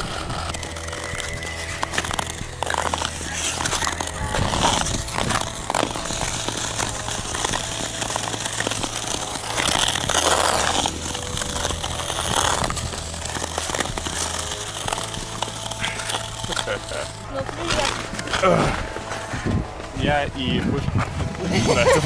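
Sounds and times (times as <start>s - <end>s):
ice skate blades scraping ice: 0.0s - 22.0s.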